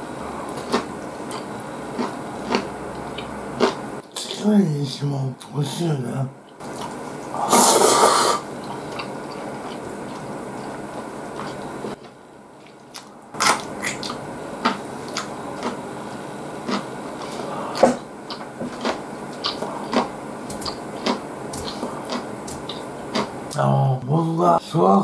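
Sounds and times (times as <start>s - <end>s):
person chewing food: 0.3s - 4.4s, 6.5s - 23.6s.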